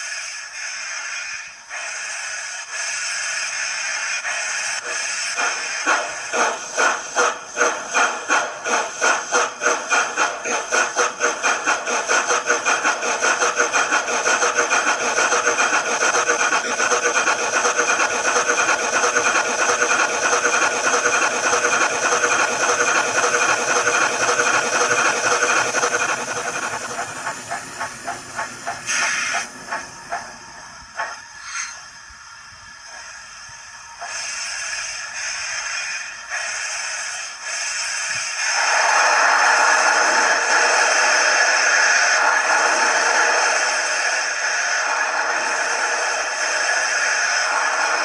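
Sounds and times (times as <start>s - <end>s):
steam hiss: 0.0s - 48.0s
steam locomotive chuffs: 0.0s - 48.0s.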